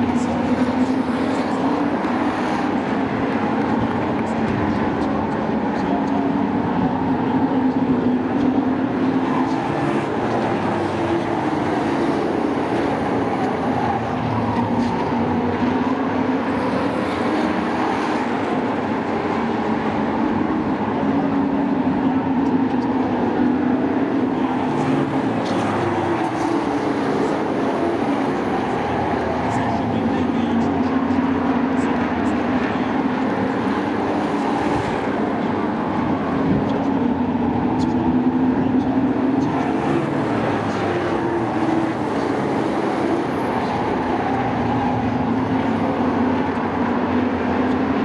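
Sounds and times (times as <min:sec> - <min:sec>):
race truck engines droning: 0:00.0 - 0:48.0.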